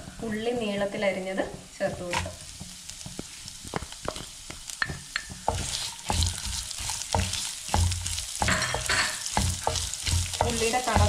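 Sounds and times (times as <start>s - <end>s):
onions sizzling in hot oil: 0.0s - 11.0s
spatula scraping and knocking pan: 0.2s - 11.0s.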